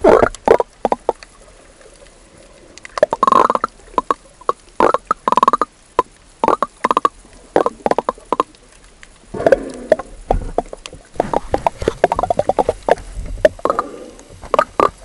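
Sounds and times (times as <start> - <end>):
underwater bubbles gurgling: 0.0 - 15.0.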